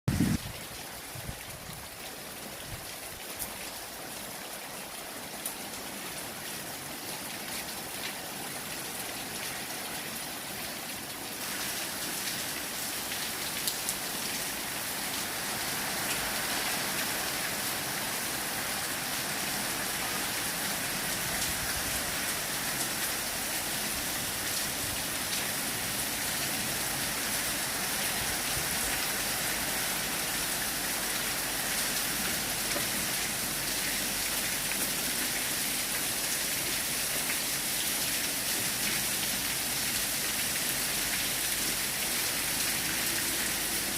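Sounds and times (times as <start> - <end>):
heavy rain pouring: 0.1 - 43.9.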